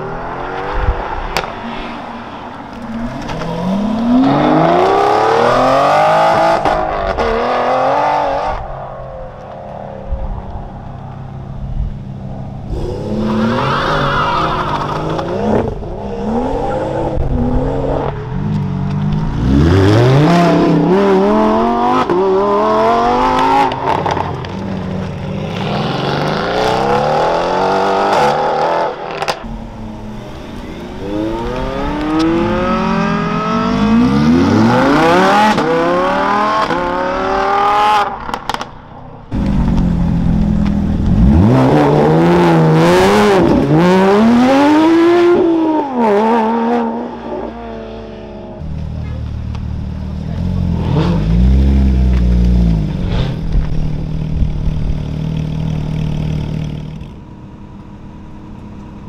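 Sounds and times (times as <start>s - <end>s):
sports cars accelerating hard: 0.0s - 38.7s, 39.3s - 48.6s
car engine revving: 2.7s - 38.7s, 39.3s - 59.0s.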